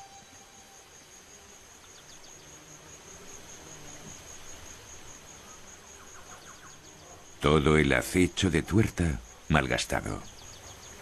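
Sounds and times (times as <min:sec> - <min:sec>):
insect high-pitched trill: 0:00.0 - 0:11.0
soft background hiss: 0:00.0 - 0:11.0.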